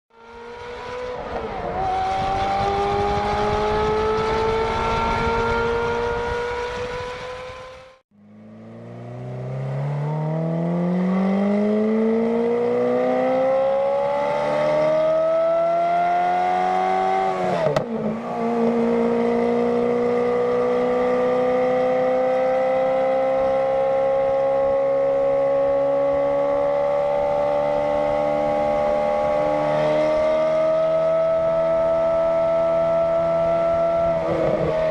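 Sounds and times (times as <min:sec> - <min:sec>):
sports car engine howling: 0:00.2 - 0:34.9.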